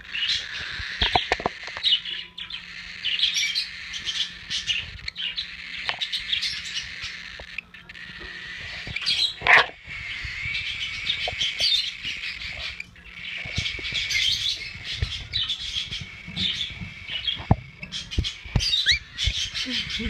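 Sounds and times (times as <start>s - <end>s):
cockatiel chirping: 0.0s - 20.0s.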